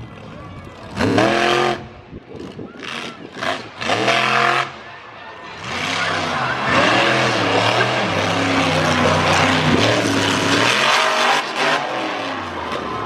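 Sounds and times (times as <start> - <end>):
truck engine revving hard: 0.9 - 4.8, 5.5 - 13.0.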